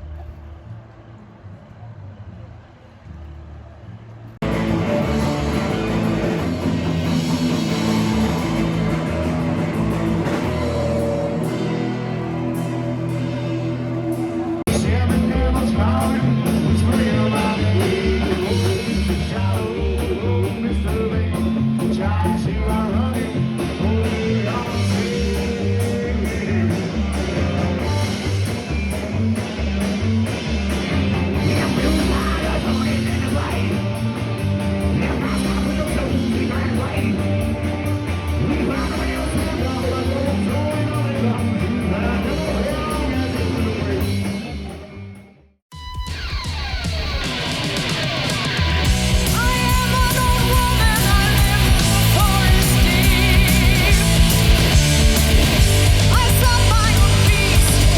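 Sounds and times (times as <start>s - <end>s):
rock music with singing: 4.4s - 57.9s.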